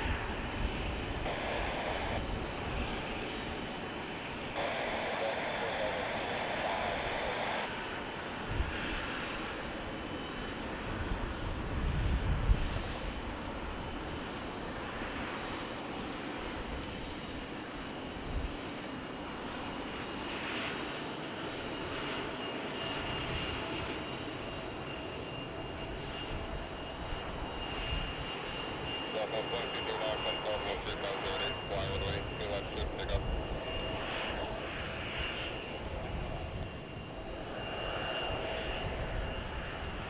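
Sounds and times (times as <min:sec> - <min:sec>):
jet engines hissing and whining: 0:00.0 - 0:40.0.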